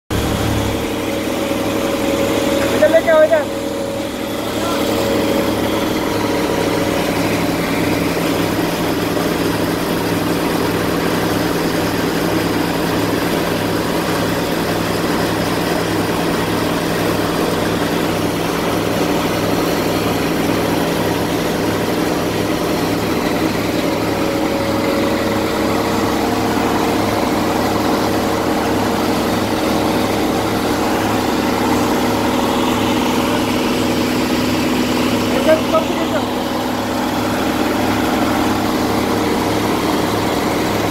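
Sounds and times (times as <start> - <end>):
diesel engine idling: 0.1 - 40.9.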